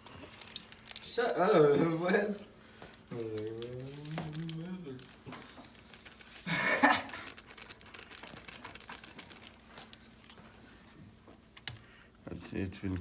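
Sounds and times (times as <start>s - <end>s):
eating clicks and rustles: 0.0s - 1.4s, 2.7s - 11.9s.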